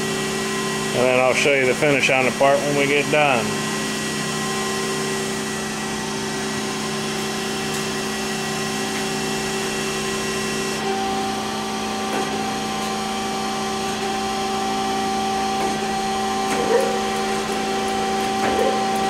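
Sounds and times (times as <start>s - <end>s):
surface grinder humming and whining: 0.0s - 19.0s.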